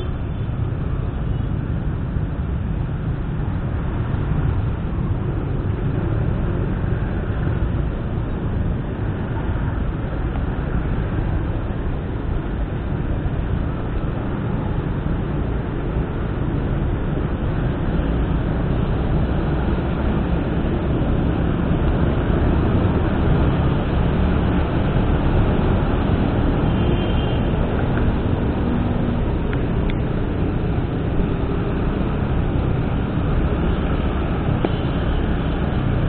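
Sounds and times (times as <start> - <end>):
vehicle driving: 0.0 - 36.0.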